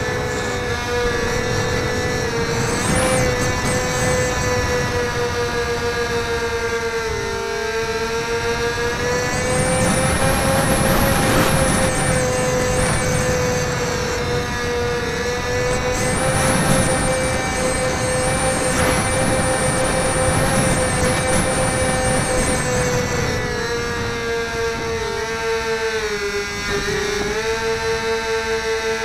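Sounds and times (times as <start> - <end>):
wind noise: 0.0 - 28.5
electric motor and propeller whine: 0.0 - 29.0
higher wavering whine: 0.0 - 29.0.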